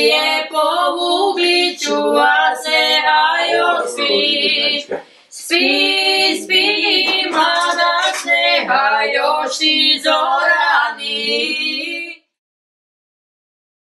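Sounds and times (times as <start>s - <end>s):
women singing unaccompanied: 0.0s - 12.4s.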